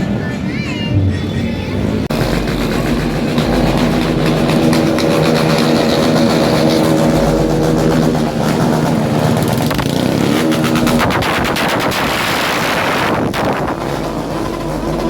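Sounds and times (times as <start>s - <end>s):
motorcycle engine revving: 0.9s - 15.0s.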